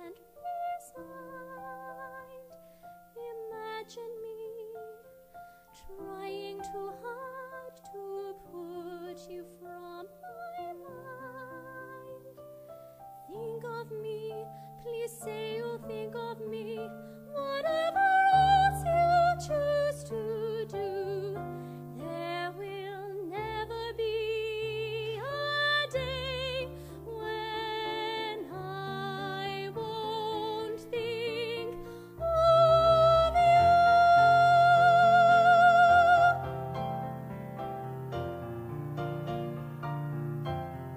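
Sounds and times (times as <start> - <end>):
woman singing operatically: 0.0 - 2.5, 3.2 - 5.0, 5.8 - 12.4, 13.3 - 36.6.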